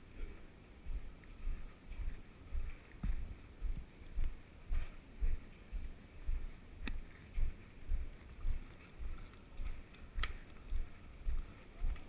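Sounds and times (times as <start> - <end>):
running footsteps on hard walkway: 0.2 - 12.0.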